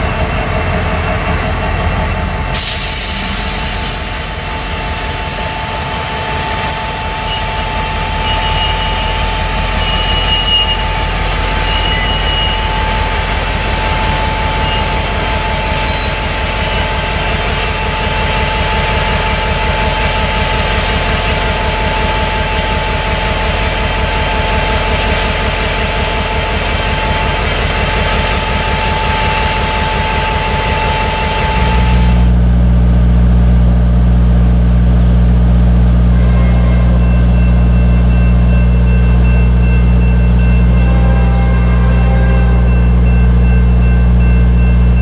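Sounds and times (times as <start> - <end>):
diesel locomotive engine beating: 0.0 - 45.0
steady low drone: 6.0 - 45.0.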